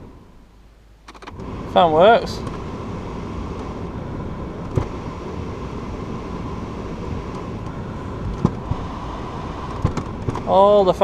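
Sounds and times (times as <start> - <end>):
heater blower fan running: 1.4 - 11.0.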